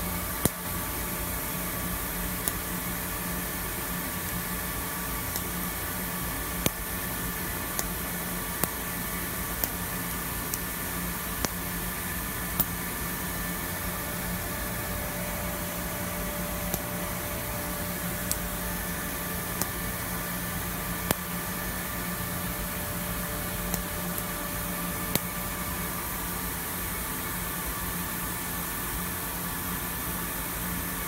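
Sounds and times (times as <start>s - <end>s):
machine hum and hiss: 0.0s - 31.0s.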